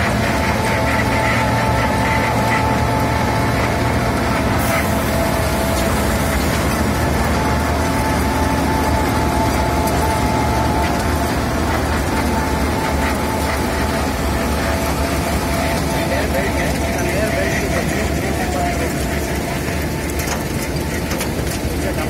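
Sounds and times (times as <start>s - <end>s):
drum grinding asphalt: 0.0s - 22.0s
machine engine running: 0.0s - 22.0s
steady whine: 0.0s - 22.0s.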